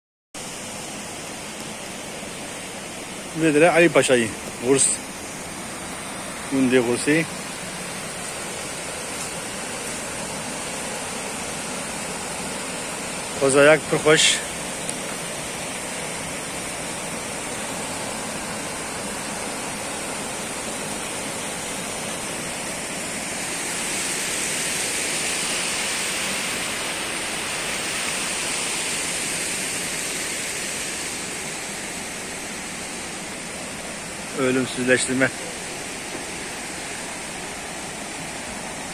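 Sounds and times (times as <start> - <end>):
stream rushing over rocks: 0.4 - 38.9.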